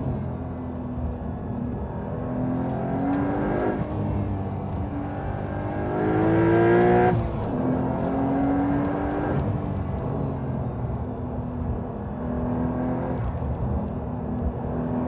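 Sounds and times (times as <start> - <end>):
sports car accelerating through gears: 0.0 - 15.0.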